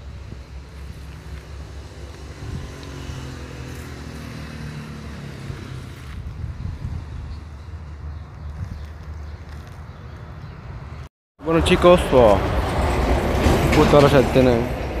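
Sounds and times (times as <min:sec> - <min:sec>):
vehicle engine passing: 0:00.0 - 0:14.9.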